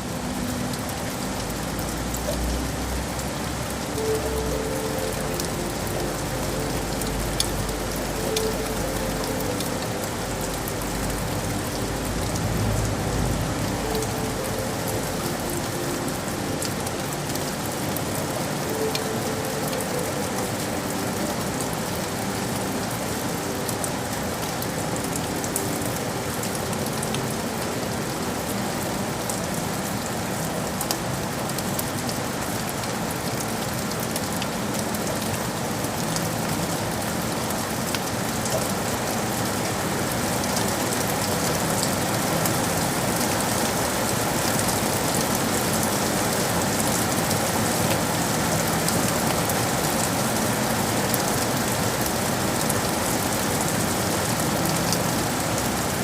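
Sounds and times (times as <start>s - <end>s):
rain on hard surfaces: 0.0s - 56.0s.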